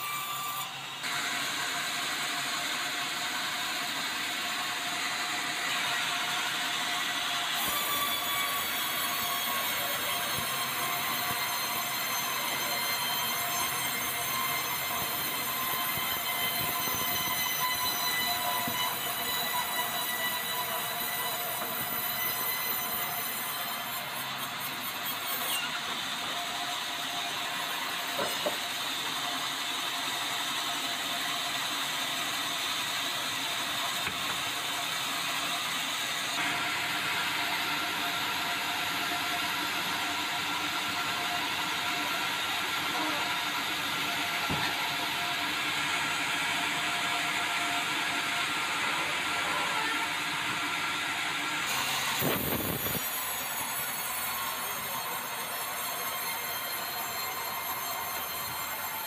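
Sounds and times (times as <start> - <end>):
band sawmill running: 0.0 - 59.0.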